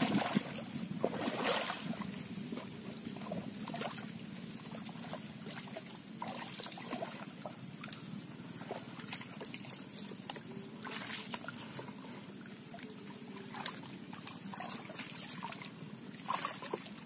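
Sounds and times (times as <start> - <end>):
splashes and squelches in muddy water: 0.0 - 17.0.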